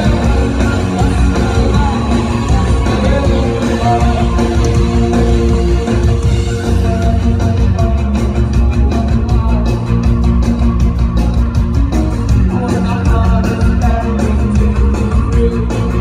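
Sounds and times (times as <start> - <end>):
person singing: 0.0 - 10.4, 12.3 - 16.0
bass guitar: 0.0 - 16.0
steady drum beat: 0.0 - 16.0.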